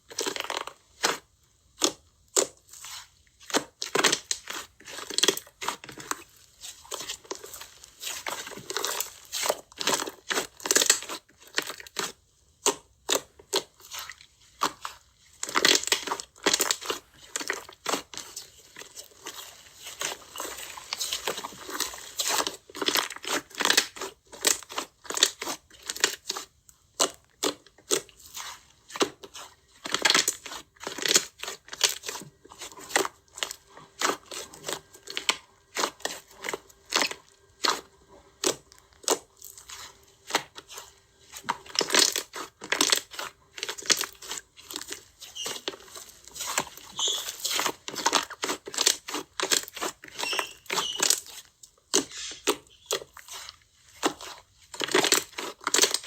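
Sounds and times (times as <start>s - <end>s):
slime crackling and popping: 0.0s - 56.0s.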